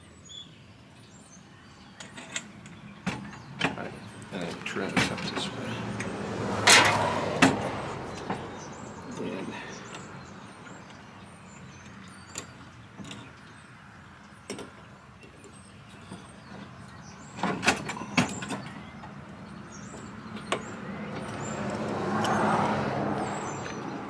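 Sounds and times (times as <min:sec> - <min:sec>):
birds chirping: 0:00.0 - 0:24.0
vehicle: 0:00.0 - 0:24.0.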